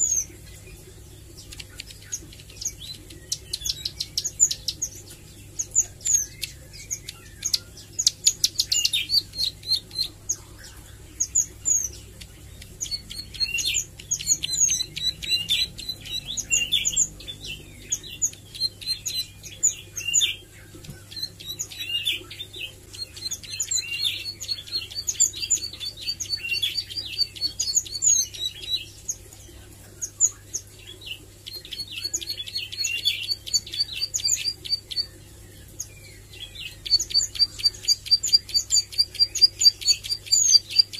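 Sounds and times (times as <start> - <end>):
bird chirping rapidly: 0.0 - 29.2, 30.6 - 40.9.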